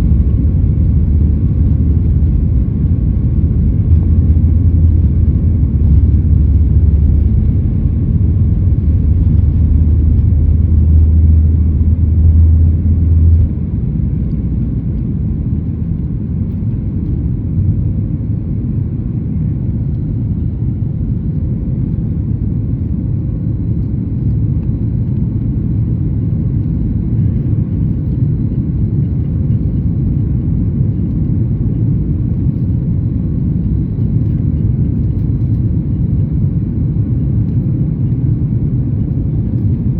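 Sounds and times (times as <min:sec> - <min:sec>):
airplane cabin engine rumble: 0:00.0 - 0:39.9
deep drone: 0:00.0 - 0:39.9.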